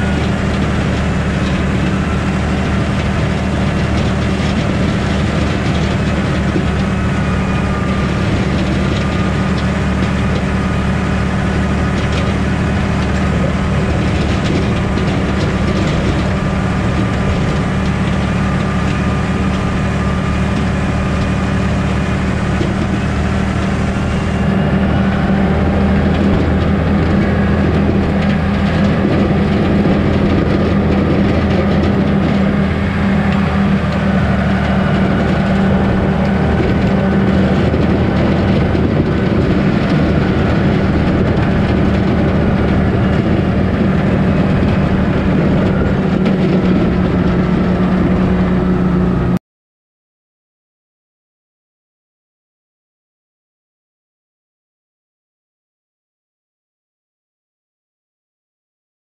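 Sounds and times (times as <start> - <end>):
tractor diesel engine running: 0.0 - 49.4.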